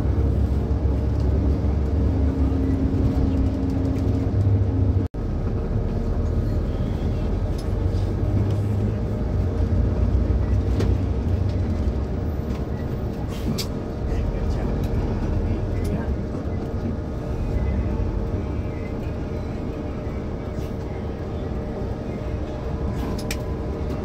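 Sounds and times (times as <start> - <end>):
bus engine and road drone: 0.0 - 24.0.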